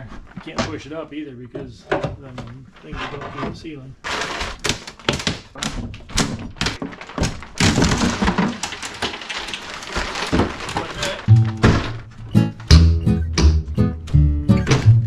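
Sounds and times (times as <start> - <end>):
wood scraping: 0.0 - 0.8, 1.5 - 12.8
wooden knocks and thunks: 1.5 - 3.6, 4.2 - 15.0.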